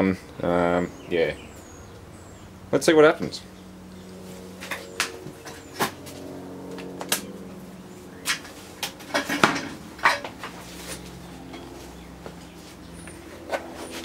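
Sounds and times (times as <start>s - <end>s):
welder transformer humming: 0.0s - 14.0s.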